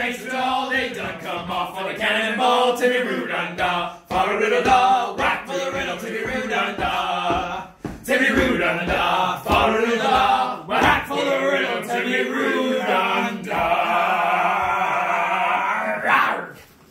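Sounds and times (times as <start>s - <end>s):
men singing together: 0.0s - 16.1s.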